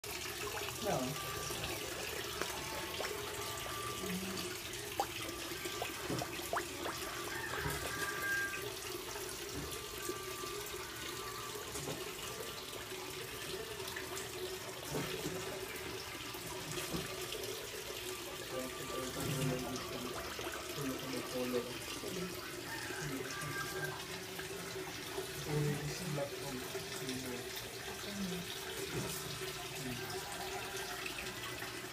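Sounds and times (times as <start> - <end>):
running water rushing: 0.0 - 31.9.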